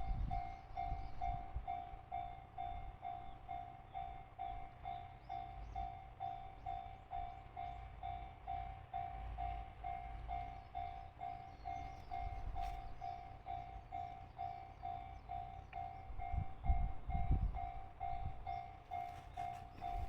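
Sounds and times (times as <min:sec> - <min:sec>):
level-crossing warning bell: 0:00.0 - 0:20.0.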